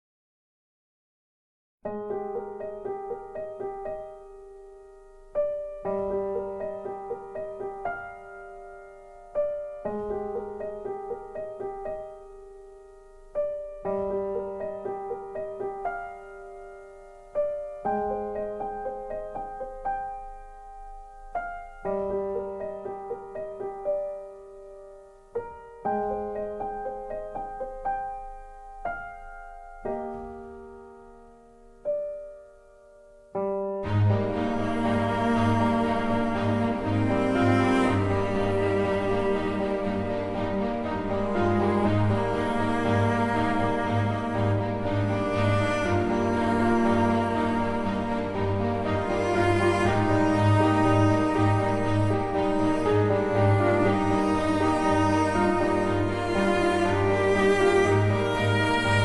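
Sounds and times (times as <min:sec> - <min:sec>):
gentle piano music: 0:01.8 - 0:59.0.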